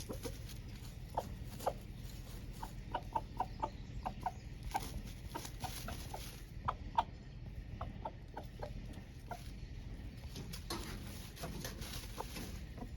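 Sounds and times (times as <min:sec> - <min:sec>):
chickens clucking: 0:00.0 - 0:12.9.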